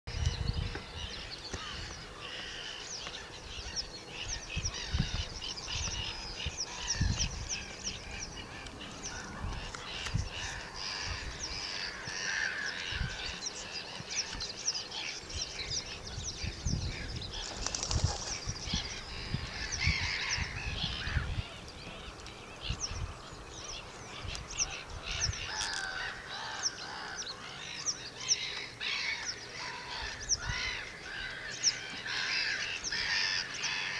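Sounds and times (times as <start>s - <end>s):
chorus of birds chirping: 0.1s - 33.9s.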